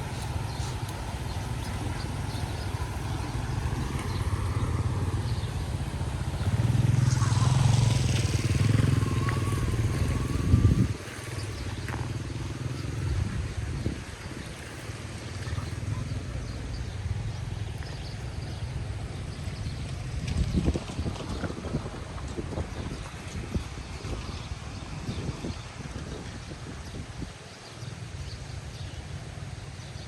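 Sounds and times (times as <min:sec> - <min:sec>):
small engine chugging: 0:00.0 - 0:25.3.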